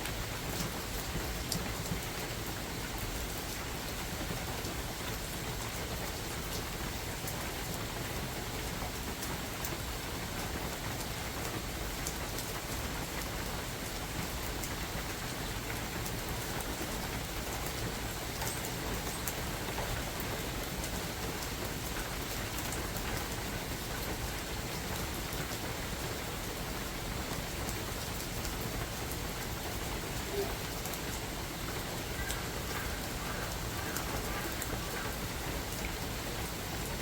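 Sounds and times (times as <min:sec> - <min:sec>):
rain falling in a forest: 0:00.0 - 0:37.0
sharp raindrop ticks: 0:05.9 - 0:37.0.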